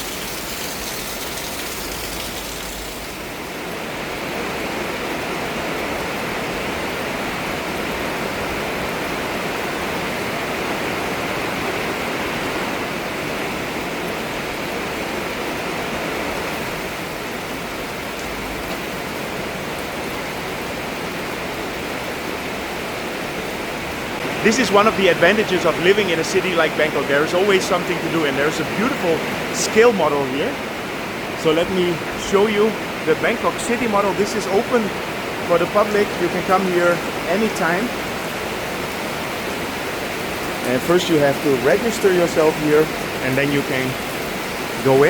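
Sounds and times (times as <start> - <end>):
heavy rain pouring: 0.0 - 45.0
runoff water splashing: 0.0 - 45.0.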